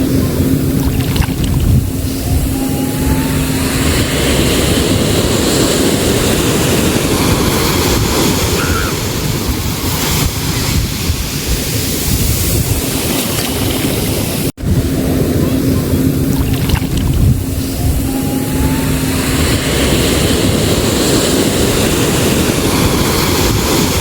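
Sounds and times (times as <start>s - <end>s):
sea waves washing: 0.0s - 24.0s
wind buffeting microphone: 0.0s - 24.0s.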